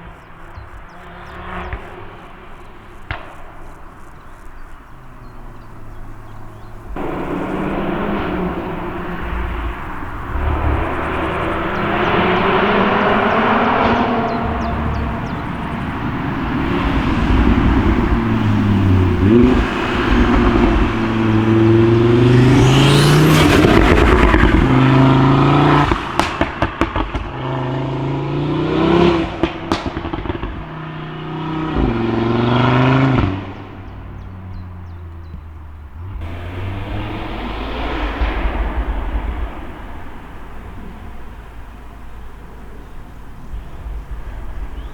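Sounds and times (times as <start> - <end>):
car engine accelerating hard: 0.0 - 44.9
exhaust pops and bangs: 0.0 - 44.9.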